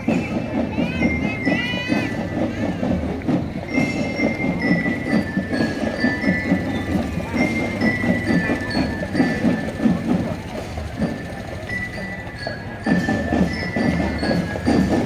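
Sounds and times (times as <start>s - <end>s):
fast marching drumbeat: 0.0s - 15.0s
glockenspiel melody: 0.0s - 15.0s.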